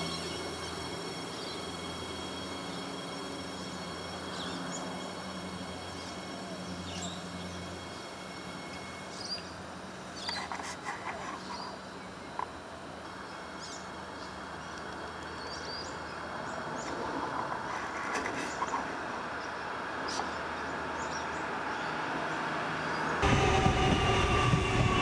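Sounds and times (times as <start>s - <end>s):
electric train humming: 0.0s - 10.3s, 11.7s - 25.0s.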